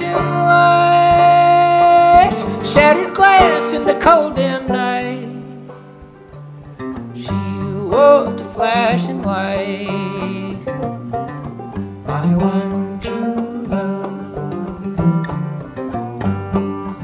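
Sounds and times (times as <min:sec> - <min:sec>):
acoustic guitars playing folk song: 0:00.0 - 0:17.0.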